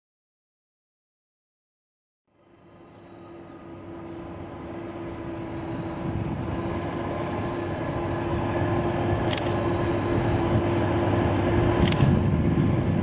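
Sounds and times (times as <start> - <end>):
diesel locomotive engine rumble: 2.3 - 13.0.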